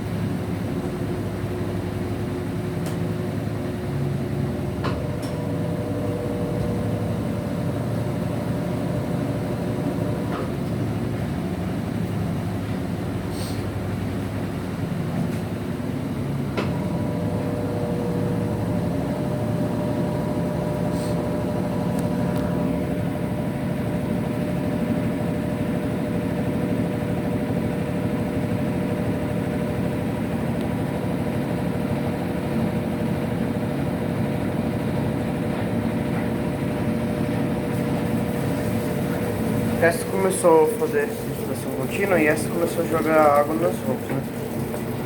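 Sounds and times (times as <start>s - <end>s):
washing machine motor hum: 0.0s - 45.0s.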